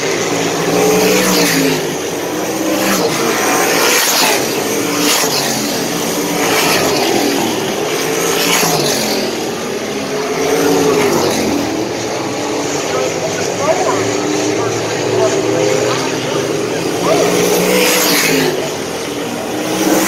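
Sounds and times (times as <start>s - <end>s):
race car engines passing: 0.0s - 20.0s.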